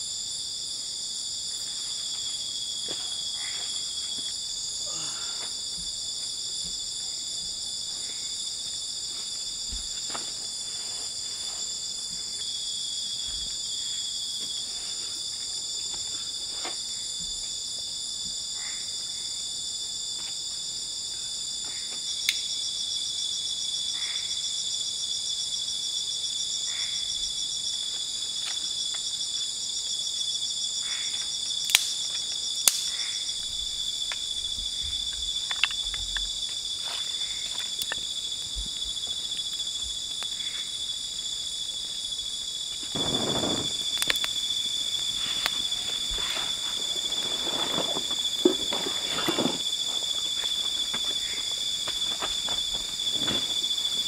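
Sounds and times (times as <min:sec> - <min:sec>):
insect chorus trilling: 0:00.0 - 0:54.0.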